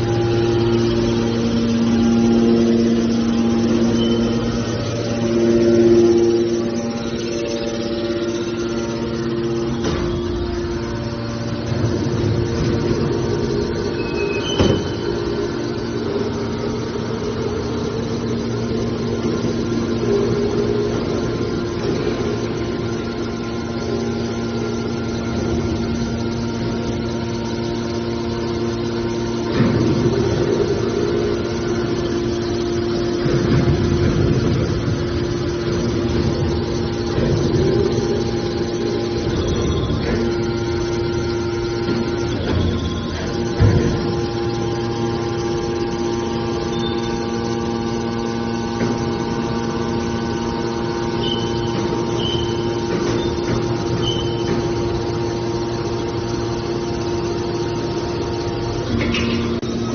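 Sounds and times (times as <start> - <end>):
hydraulic power unit humming: 0.0 - 59.9.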